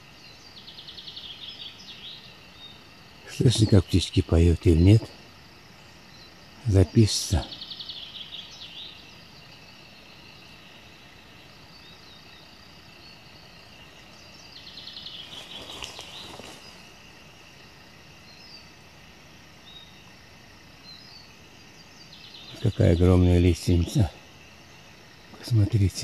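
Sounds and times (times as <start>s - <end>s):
songbird trills: 0.0s - 17.2s, 19.6s - 26.0s
faint forest background hiss: 0.0s - 26.0s
rustle: 0.0s - 26.0s.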